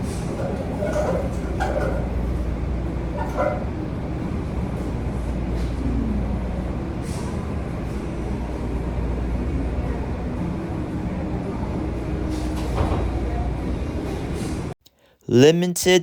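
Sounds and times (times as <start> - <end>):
bus rumbling from inside: 0.0 - 14.8.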